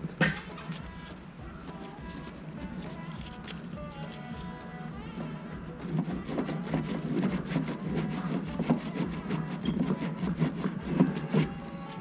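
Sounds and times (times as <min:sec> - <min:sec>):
sand cloth scrubbing copper pipe: 0:00.0 - 0:12.0.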